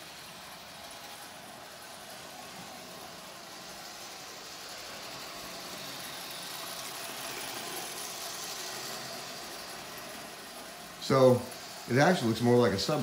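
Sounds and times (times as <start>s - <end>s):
toy train motor and wheels whirring: 0.0s - 13.0s.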